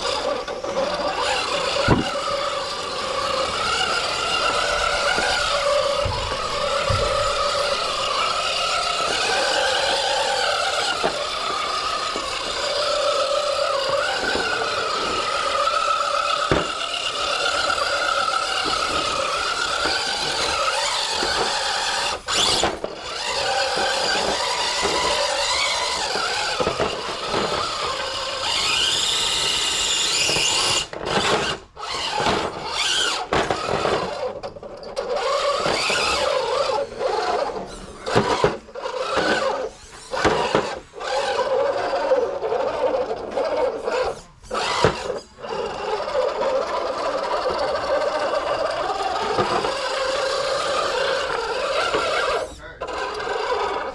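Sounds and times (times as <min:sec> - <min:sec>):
electric motor and gears whining: 0:00.0 - 0:53.9.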